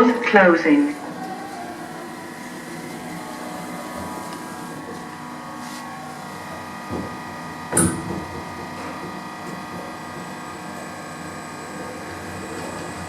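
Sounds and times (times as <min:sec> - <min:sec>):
lift hum with thin tones: 0:00.0 - 0:13.0.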